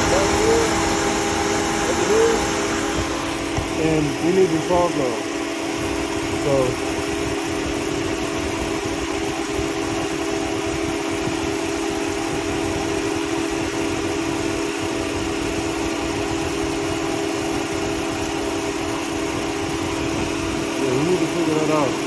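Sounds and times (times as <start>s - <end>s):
car engine idling: 0.0s - 22.0s
radiator cooling fan running: 0.0s - 22.0s.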